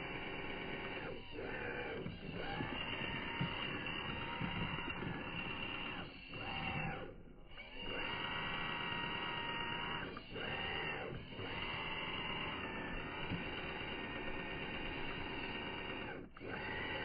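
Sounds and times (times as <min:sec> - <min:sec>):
electric toy car motor whining: 0:00.0 - 0:17.0.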